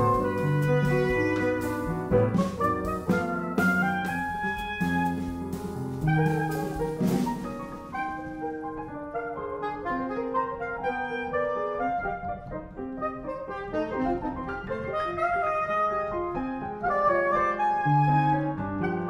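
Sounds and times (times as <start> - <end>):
soprano saxophone: 0.0 - 19.0
upright piano: 0.0 - 19.0.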